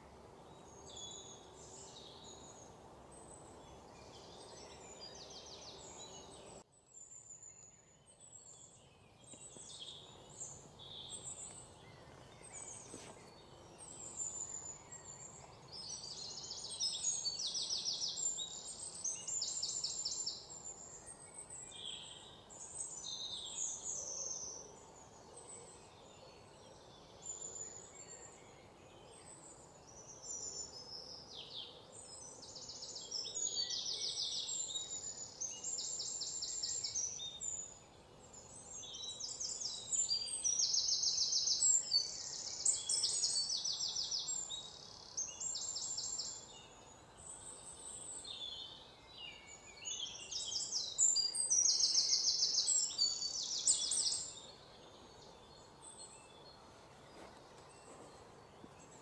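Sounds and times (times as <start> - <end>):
faint background hiss: 0.0 - 59.0
small birds chirping and trilling: 0.0 - 59.0.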